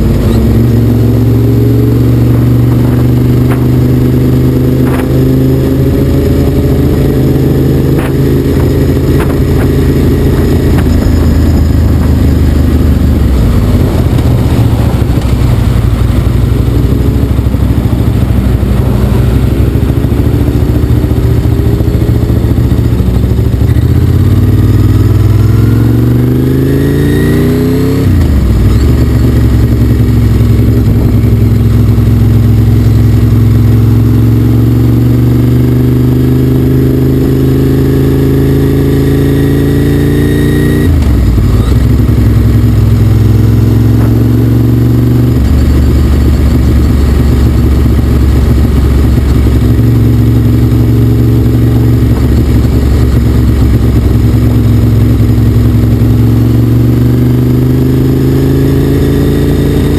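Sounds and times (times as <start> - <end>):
vehicle engine accelerating: 0.0 - 59.9.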